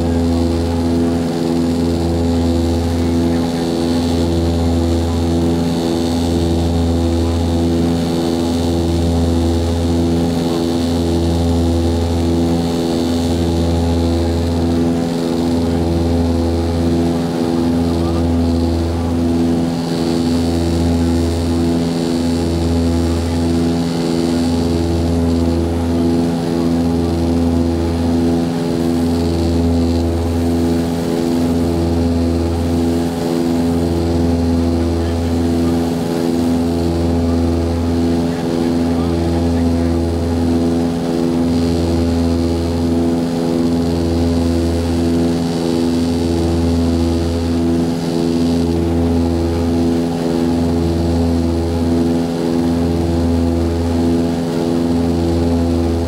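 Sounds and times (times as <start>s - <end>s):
turboprop engine cabin drone: 0.0s - 56.0s.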